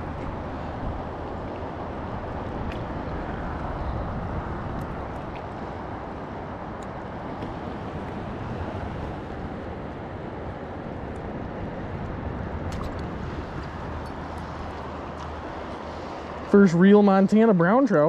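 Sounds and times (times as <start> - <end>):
river current rushing: 0.0 - 18.0.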